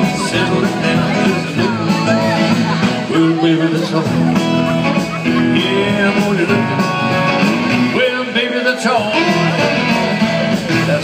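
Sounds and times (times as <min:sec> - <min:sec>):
live rock and roll band: 0:00.0 - 0:11.0.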